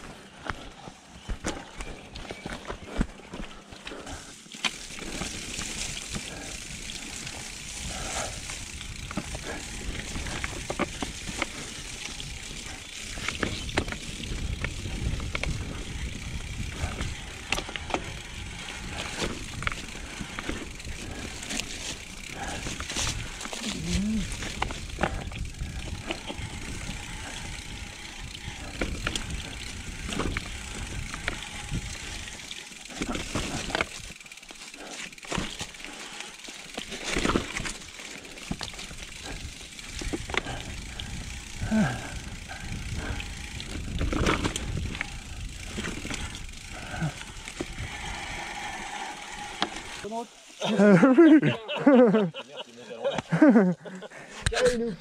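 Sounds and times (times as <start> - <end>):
bike rattling over bumps: 0.0 - 51.0
bike tyres rolling on trail: 0.0 - 55.0.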